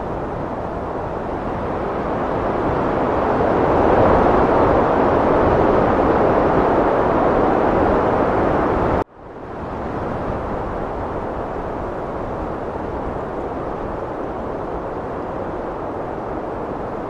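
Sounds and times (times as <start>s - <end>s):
heavy wind blowing: 0.0s - 17.0s.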